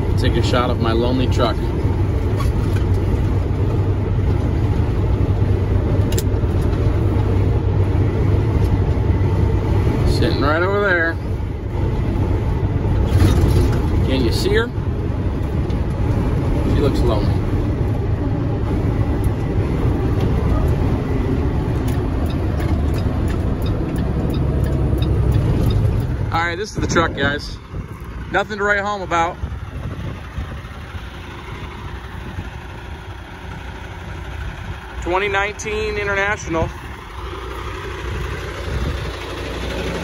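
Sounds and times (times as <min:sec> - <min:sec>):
road noise: 0:00.0 - 0:40.0
truck engine drone: 0:00.0 - 0:40.0.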